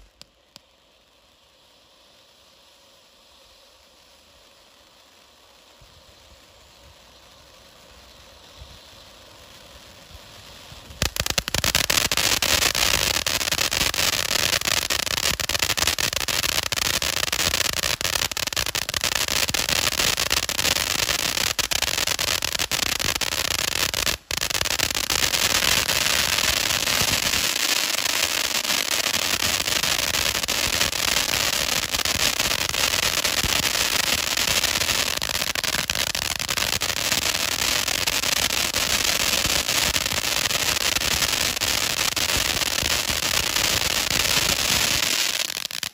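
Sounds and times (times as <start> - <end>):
firework sparks hissing and crackling: 0.0 - 45.9.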